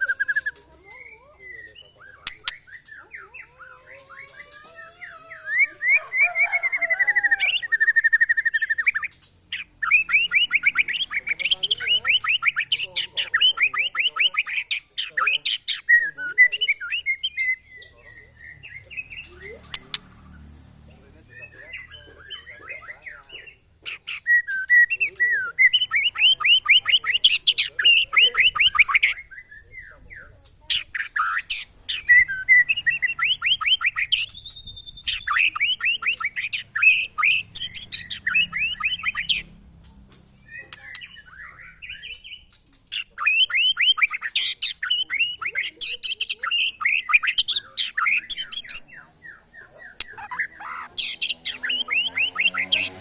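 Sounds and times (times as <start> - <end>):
birds singing rapid chattering notes: 0.0 - 53.0.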